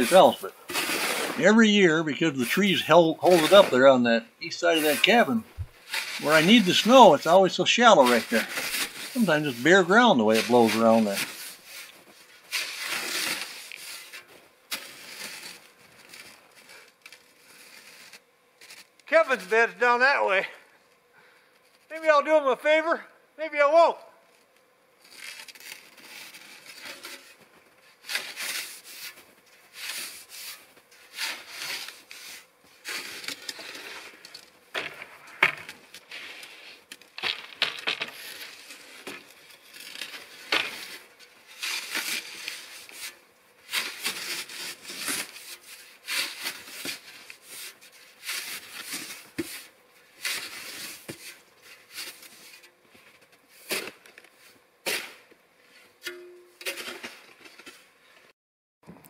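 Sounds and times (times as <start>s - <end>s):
metal shovel scraping snow: 0.0s - 19.7s, 25.0s - 34.5s, 35.9s - 37.5s, 38.1s - 57.9s.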